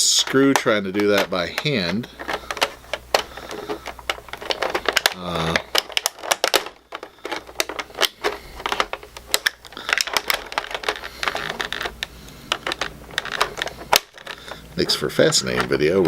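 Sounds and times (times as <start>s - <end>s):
plastic packaging crackling: 0.0s - 16.0s.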